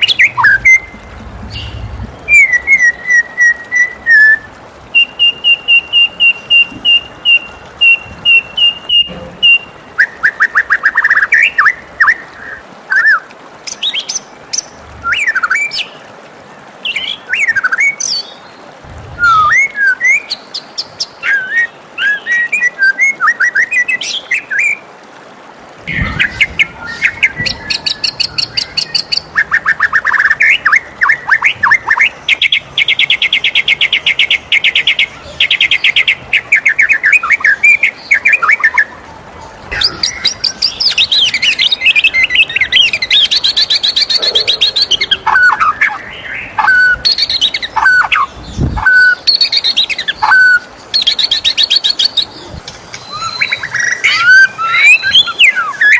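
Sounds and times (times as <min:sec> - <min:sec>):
bird singing varied song: 0:00.0 - 0:16.1, 0:16.8 - 0:24.8, 0:25.8 - 0:55.9.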